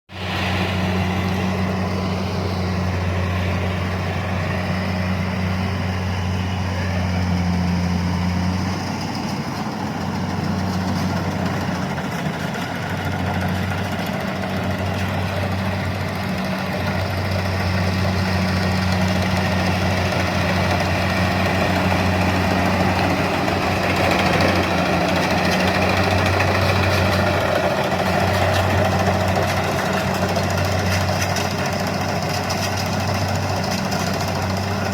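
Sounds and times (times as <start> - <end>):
engine running: 0.1 - 34.9.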